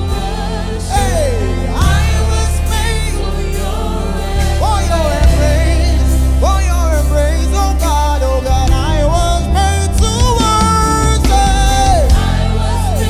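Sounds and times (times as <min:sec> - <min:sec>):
bass guitar: 0:00.0 - 0:13.0
keyboards: 0:00.0 - 0:13.0
men singing worship song: 0:00.0 - 0:13.0.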